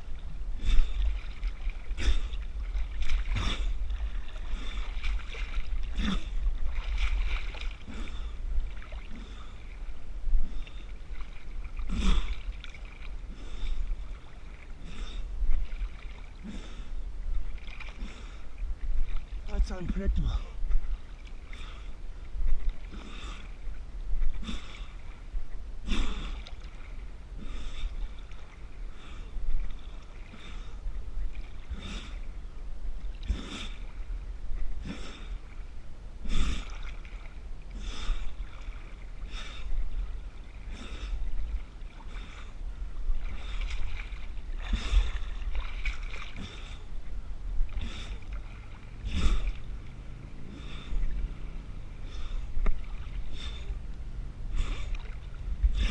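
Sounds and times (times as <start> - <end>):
swimmer splashing: 0.0 - 32.4, 36.2 - 55.9
steady low rumble: 0.0 - 55.9
swimmer breathing: 0.5 - 17.0, 17.6 - 18.6, 20.2 - 22.1, 22.8 - 23.7, 24.3 - 32.4, 33.2 - 35.6, 36.2 - 47.0, 47.7 - 55.9.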